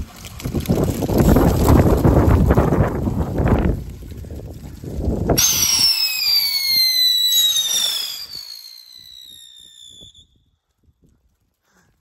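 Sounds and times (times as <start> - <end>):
firework whistling and hissing: 0.0 - 10.6.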